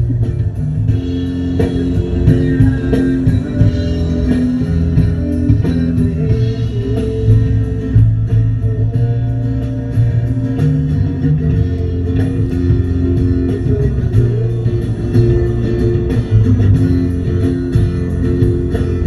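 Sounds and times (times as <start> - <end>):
rock band music: 0.0 - 19.0.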